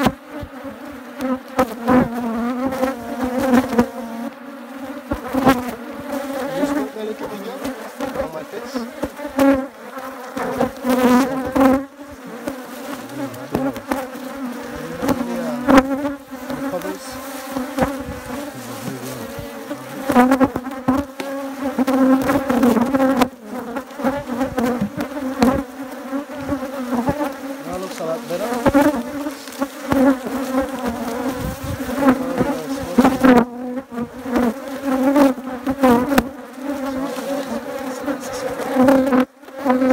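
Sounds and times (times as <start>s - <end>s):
honeybees buzzing: 0.0s - 39.9s.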